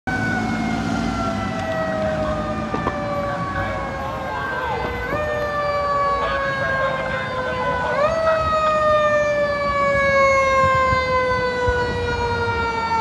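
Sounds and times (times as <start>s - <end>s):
fire engine siren wailing: 0.1s - 13.0s.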